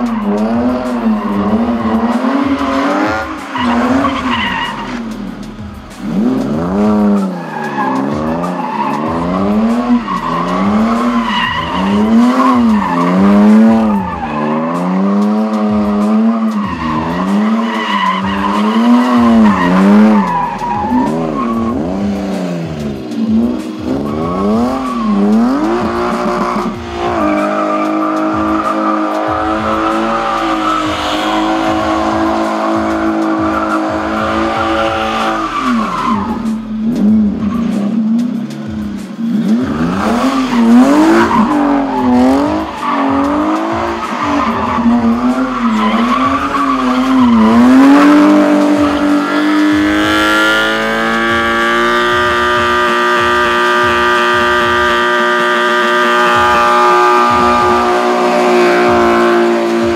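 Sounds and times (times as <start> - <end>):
car engine revving hard: 0.0 - 59.9
tyres skidding and squealing: 0.0 - 59.9.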